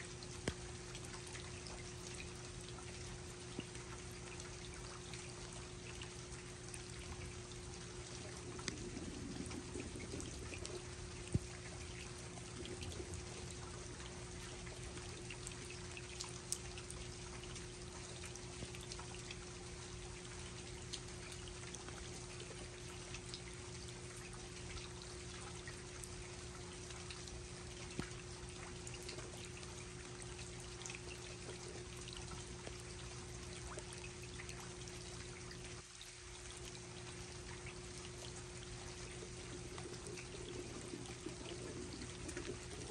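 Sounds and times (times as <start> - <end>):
faint steady hum: 0.0 - 42.9
steady rain: 0.0 - 42.9.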